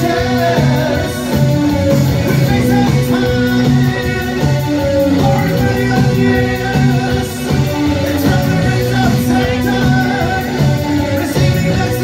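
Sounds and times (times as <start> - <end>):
electric guitar: 0.0 - 12.0
live band playing loudly: 0.0 - 12.0
person singing: 0.0 - 12.0.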